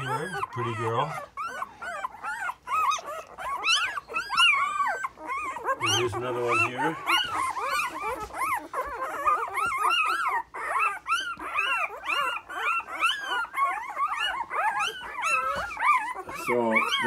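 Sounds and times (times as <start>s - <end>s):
puppies squawking and whining: 0.0s - 17.0s.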